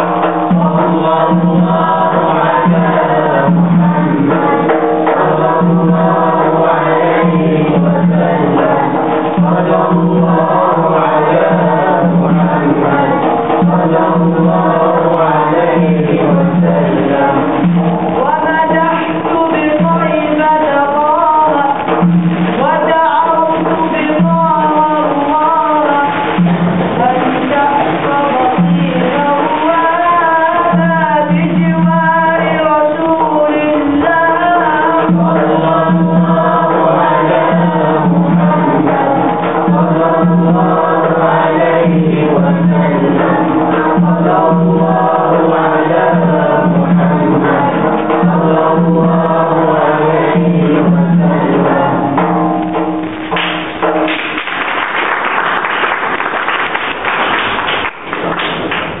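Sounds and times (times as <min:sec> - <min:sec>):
person singing: 0:00.0 - 0:53.0
pulsing drum beat: 0:00.0 - 0:59.0.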